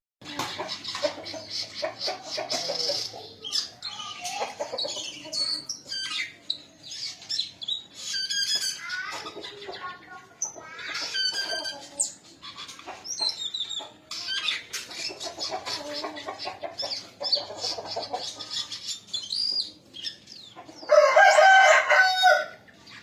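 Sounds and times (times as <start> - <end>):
bird singing chirps and trills: 0.2 - 23.0.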